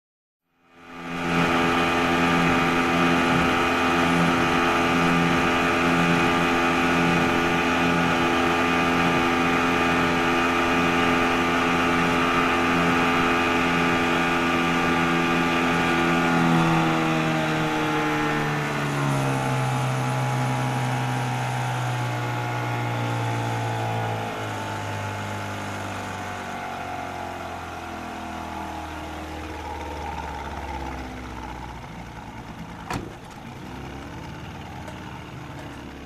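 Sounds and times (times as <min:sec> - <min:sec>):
outboard motor running: 0:00.6 - 0:36.0.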